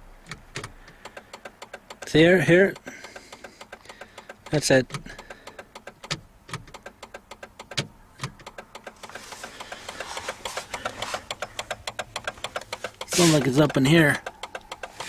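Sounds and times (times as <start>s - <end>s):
turn-signal flasher clicking fast: 0.2s - 15.0s.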